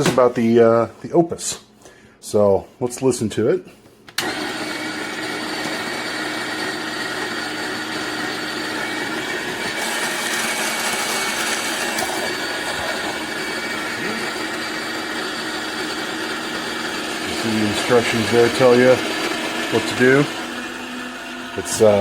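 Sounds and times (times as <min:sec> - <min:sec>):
coffee grinder whirring: 0:04.2 - 0:22.0.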